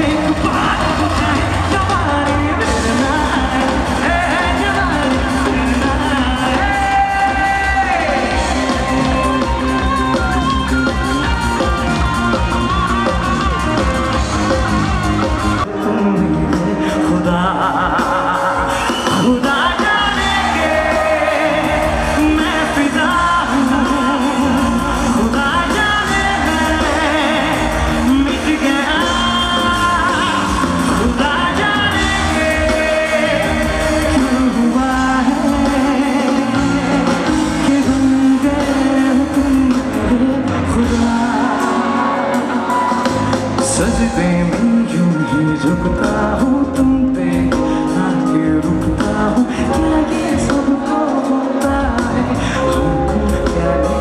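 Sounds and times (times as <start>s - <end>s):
man singing into microphone: 0.0s - 15.0s, 15.6s - 54.0s
loud band music: 0.0s - 54.0s.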